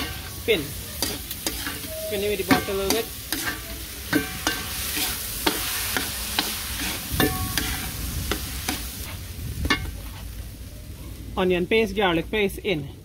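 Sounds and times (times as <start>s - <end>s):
rice sizzling in butter: 0.0s - 10.6s.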